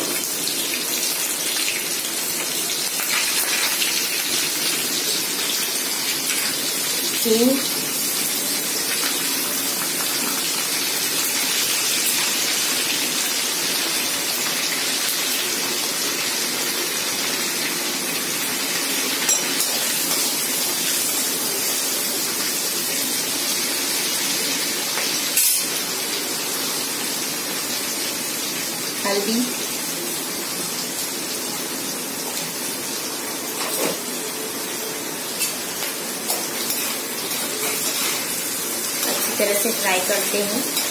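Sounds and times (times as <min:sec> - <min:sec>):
spices sizzling in hot oil: 0:00.0 - 0:40.9.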